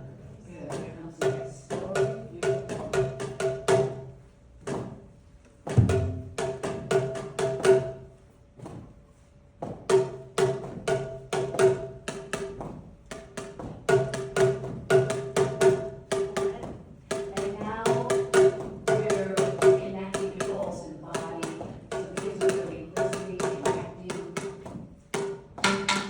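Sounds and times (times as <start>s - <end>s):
plastic tubes struck in rhythm: 0.0s - 26.0s.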